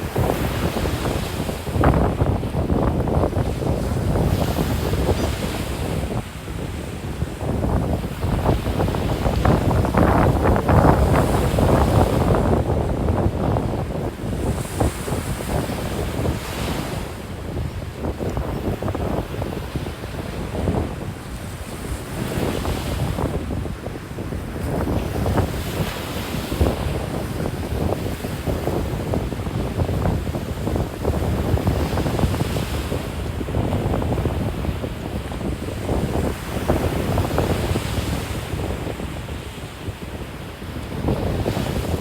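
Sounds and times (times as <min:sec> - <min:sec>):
ocean surf breaking: 0:00.0 - 0:17.2, 0:24.5 - 0:42.0
wind buffeting microphone: 0:00.0 - 0:42.0.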